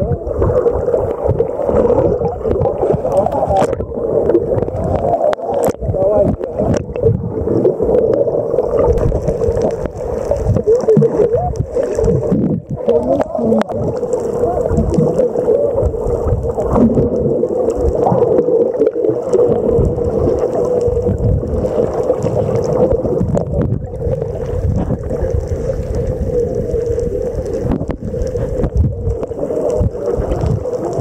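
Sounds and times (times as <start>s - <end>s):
water rumbling and gurgling: 0.0s - 31.0s.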